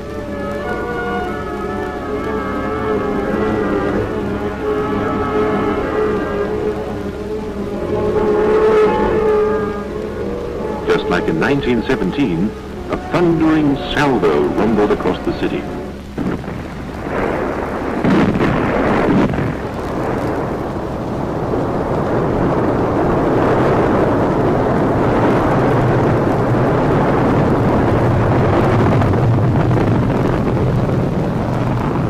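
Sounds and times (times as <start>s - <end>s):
rocket launch roar: 0.0s - 32.0s
ship's gun salvo rumbling: 0.0s - 32.0s.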